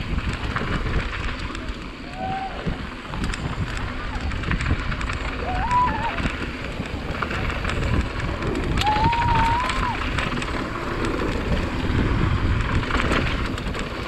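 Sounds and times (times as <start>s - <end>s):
bike rattling: 0.0s - 14.0s
wind buffeting microphone: 0.0s - 14.0s.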